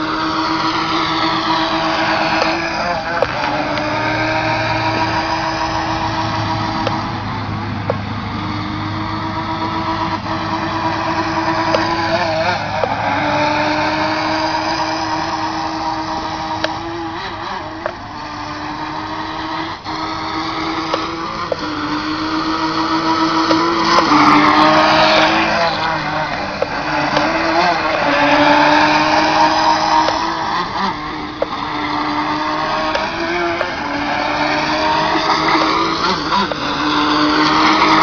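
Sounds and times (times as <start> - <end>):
model boat motor whine: 0.0 - 38.0
rush of spray: 0.0 - 38.0.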